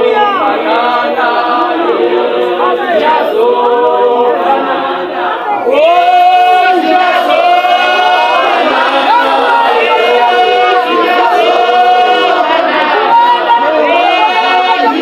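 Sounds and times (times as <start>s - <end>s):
group singing in harmony: 0.0s - 15.0s.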